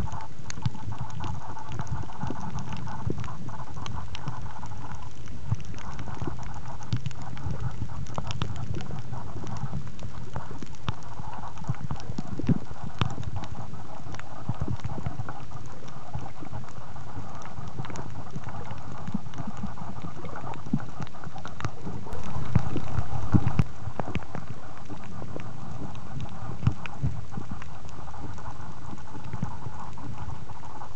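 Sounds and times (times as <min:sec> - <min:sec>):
muffled underwater rumble: 0:00.0 - 0:30.9.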